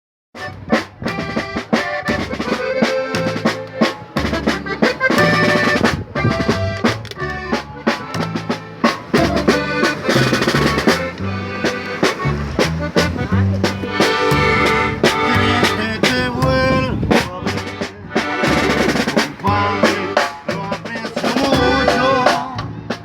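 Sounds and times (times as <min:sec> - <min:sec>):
accordion playing: 0:00.4 - 0:23.0
drum kit with snare: 0:00.4 - 0:23.0.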